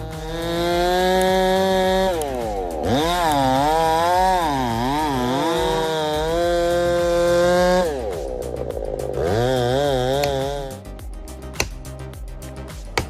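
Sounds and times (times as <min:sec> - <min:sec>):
chainsaw at full throttle: 0:00.0 - 0:13.0.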